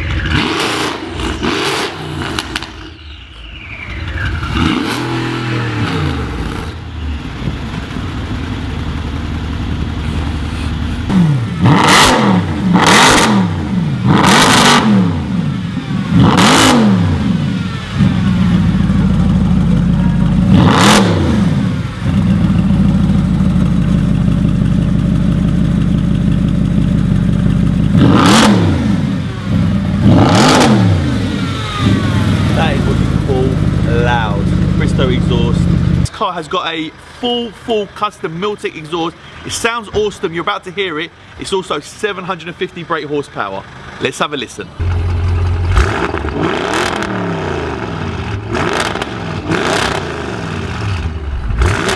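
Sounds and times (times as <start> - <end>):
car engine revving: 0.0 - 3.0, 3.8 - 36.1, 44.7 - 51.9
exhaust crack: 0.0 - 3.0, 3.8 - 36.2, 44.8 - 51.9.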